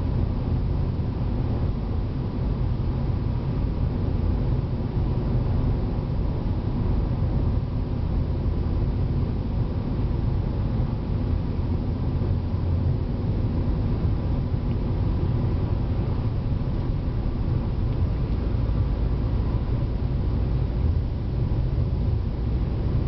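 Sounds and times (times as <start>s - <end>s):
car interior road noise: 0.0s - 23.0s.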